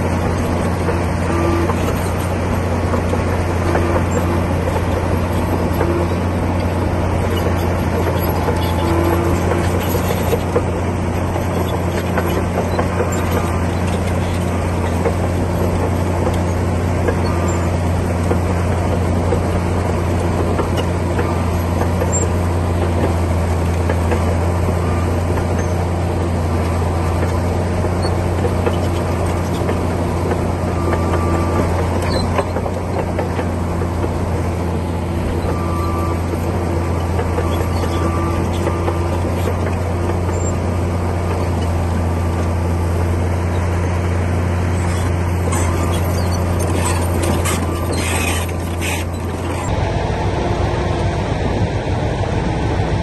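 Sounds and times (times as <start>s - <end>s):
bulldozer diesel engine droning: 0.0s - 53.0s.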